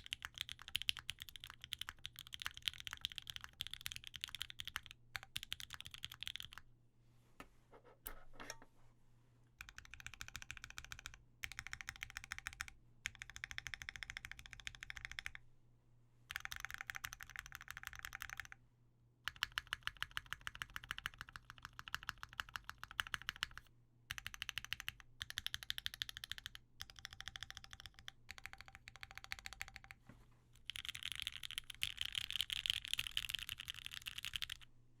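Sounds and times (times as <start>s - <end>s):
mechanical keyboard typing: 0.0s - 6.6s, 9.6s - 15.4s, 16.3s - 18.6s, 19.3s - 30.0s, 30.6s - 34.6s.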